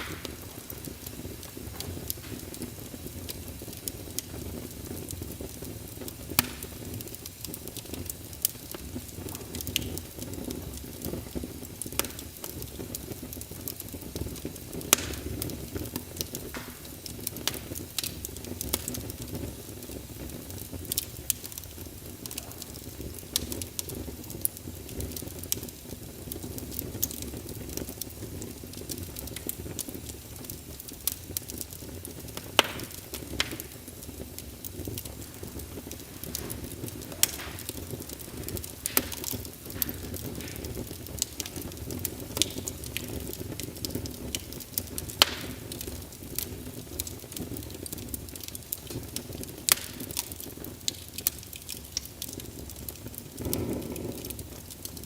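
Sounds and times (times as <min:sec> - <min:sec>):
fireplace fire crackling: 0:00.0 - 0:55.0
low rumble of flames: 0:00.0 - 0:55.0.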